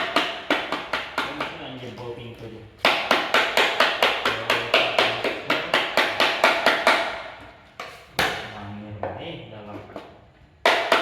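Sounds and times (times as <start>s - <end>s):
hammer knocking: 0.0s - 1.7s, 2.8s - 9.2s, 9.9s - 11.0s.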